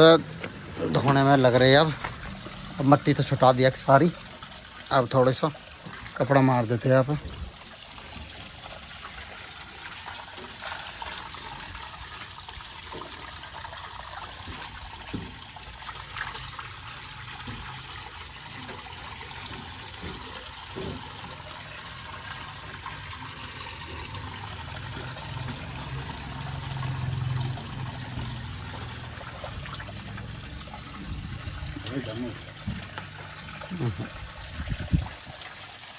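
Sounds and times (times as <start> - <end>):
water running and splashing: 0.0 - 35.9.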